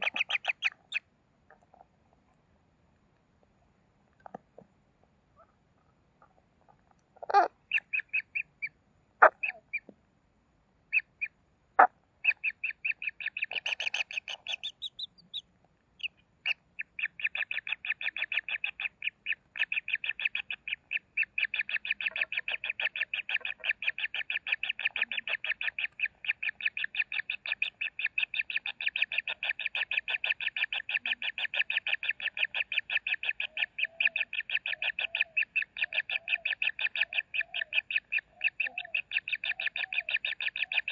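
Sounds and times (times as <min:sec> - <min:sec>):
bird chicks calling: 0:00.0 - 0:01.1, 0:07.2 - 0:09.9, 0:10.9 - 0:40.9.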